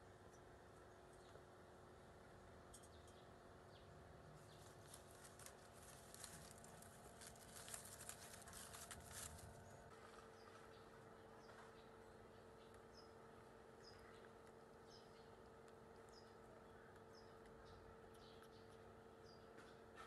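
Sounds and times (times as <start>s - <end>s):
faint background hum: 0.0s - 20.0s.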